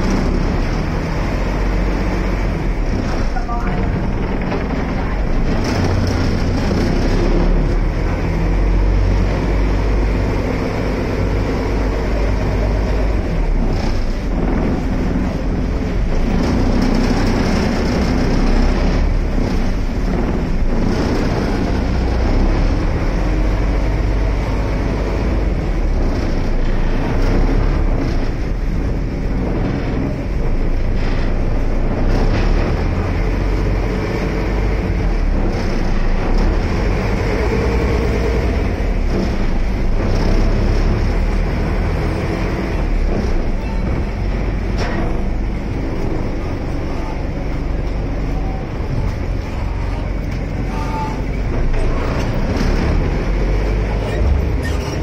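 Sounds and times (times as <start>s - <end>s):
boat engine drone: 0.0s - 55.0s
rushing water: 0.0s - 55.0s
wind: 0.0s - 55.0s.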